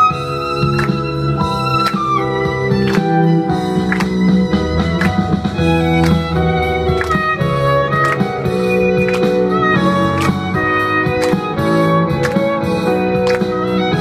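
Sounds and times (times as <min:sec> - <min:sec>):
violin melody: 0:00.0 - 0:14.0.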